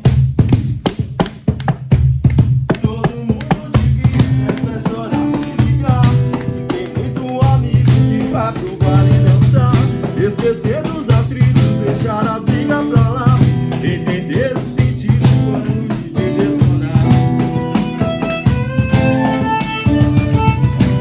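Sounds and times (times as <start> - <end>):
rhythmic bass line: 0.0 - 21.0
live band playing: 4.0 - 21.0.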